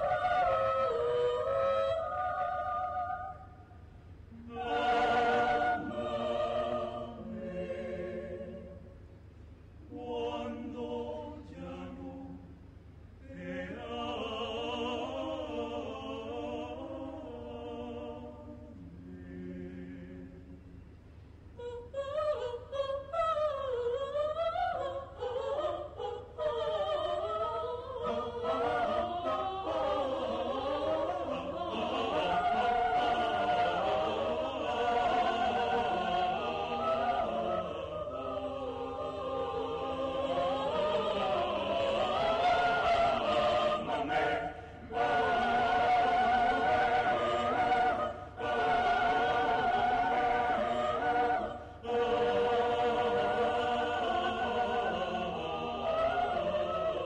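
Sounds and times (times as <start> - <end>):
a cappella choir singing: 0.0 - 9.1, 9.8 - 12.6, 13.2 - 20.9, 21.6 - 57.0.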